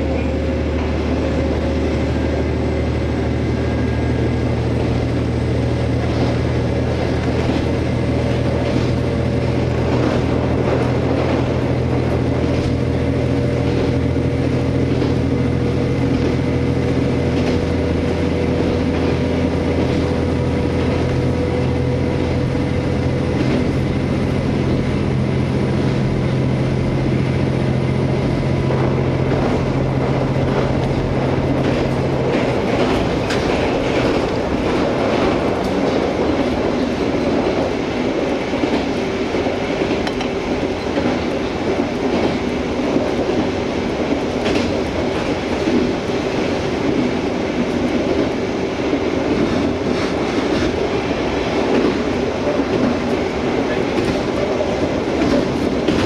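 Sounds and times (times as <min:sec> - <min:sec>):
diesel railcar engine running: 0:00.0 - 0:56.0
wheels rumbling on rail: 0:00.0 - 0:56.0.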